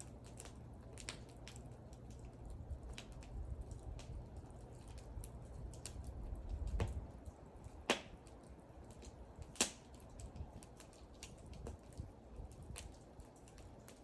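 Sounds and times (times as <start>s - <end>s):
burning wood pops: 0.0s - 14.0s
wood fire crackling: 0.0s - 14.0s.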